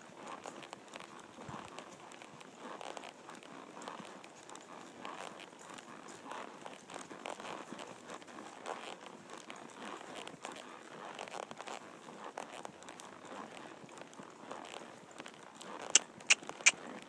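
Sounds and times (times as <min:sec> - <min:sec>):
horse hooves on dirt trail: 0:00.0 - 0:17.0.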